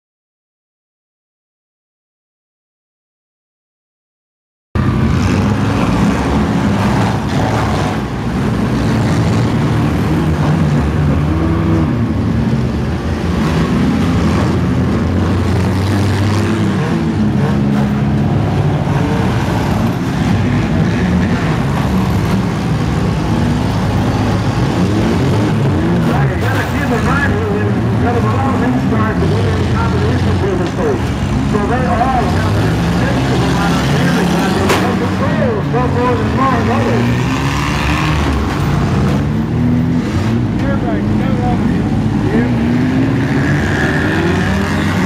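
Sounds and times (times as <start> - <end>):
car engines revving: 4.8 - 45.0.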